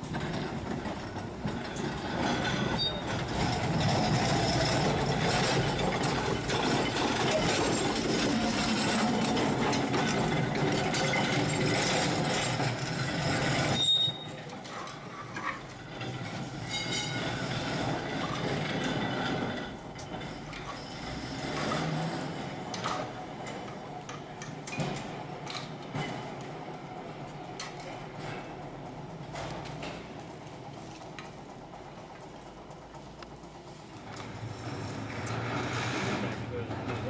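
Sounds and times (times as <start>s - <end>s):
tram rumbling on rails: 0.0s - 37.0s.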